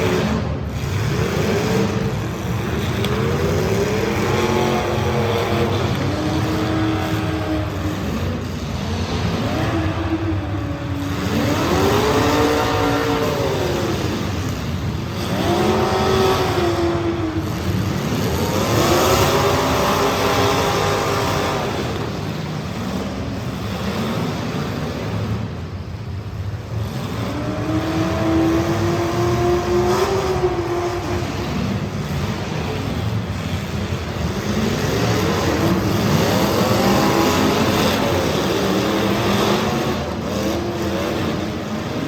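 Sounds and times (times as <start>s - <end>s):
race car engines revving: 0.0s - 42.0s.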